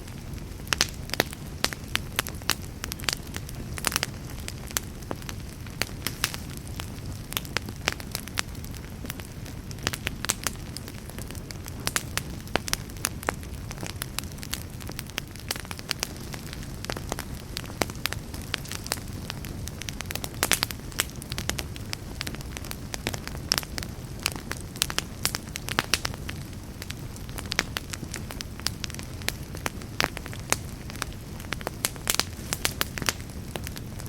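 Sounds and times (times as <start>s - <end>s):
fire crackling and popping: 0.0s - 34.0s
fire flames rumbling: 0.0s - 34.0s.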